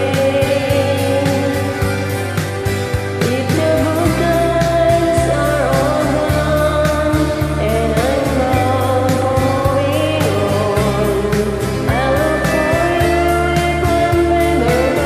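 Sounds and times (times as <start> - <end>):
country-folk backing track: 0.0 - 15.0
person singing karaoke: 0.0 - 15.0.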